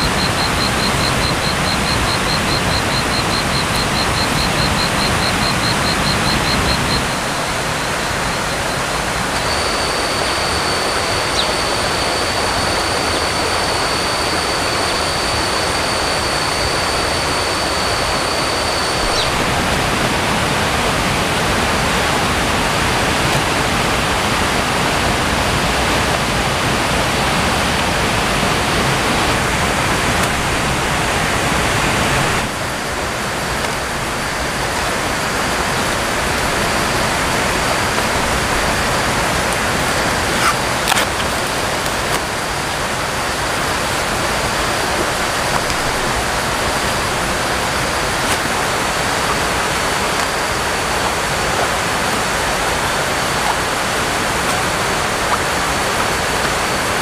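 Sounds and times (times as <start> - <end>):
high steady whine: 0.0 - 57.0
steady rushing noise: 0.0 - 57.0.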